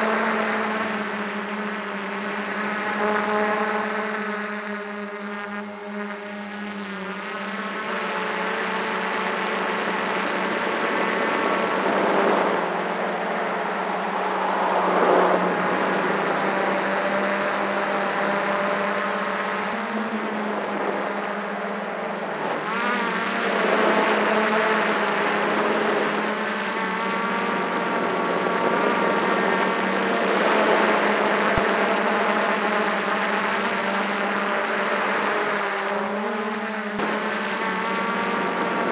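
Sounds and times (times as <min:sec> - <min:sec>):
drone motors buzzing: 0:00.0 - 0:38.9.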